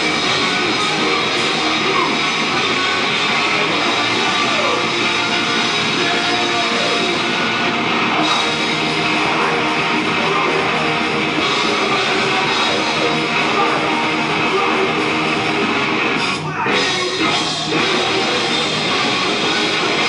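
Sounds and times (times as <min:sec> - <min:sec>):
electric guitar slides: 0:00.0 - 0:20.0
rock band playing: 0:00.0 - 0:20.0.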